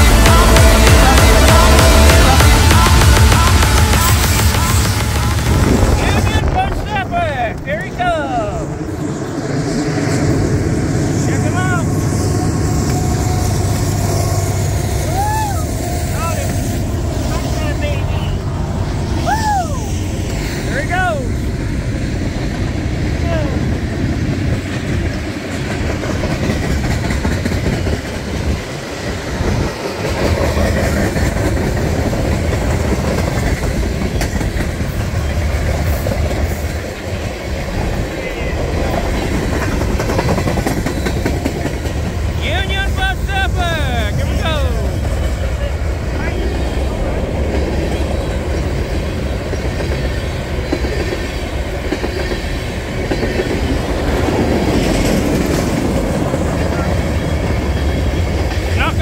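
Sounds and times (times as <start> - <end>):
rail clacks: 0.0 - 59.0
train wheels rumbling on rails: 0.0 - 59.0.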